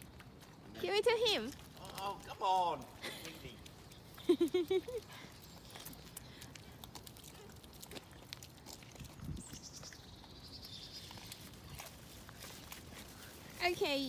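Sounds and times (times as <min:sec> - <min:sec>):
deer chewing: 0:00.0 - 0:14.0.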